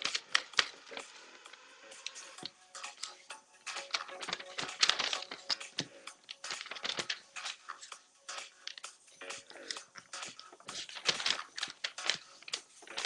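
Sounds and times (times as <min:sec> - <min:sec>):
paper crinkling and rustling: 0:00.0 - 0:13.0.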